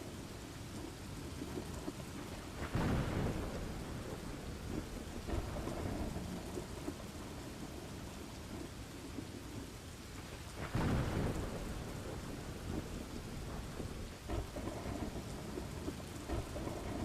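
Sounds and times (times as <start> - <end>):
steady rain: 0.0 - 17.0
rolling thunder: 1.4 - 9.3, 10.2 - 17.0.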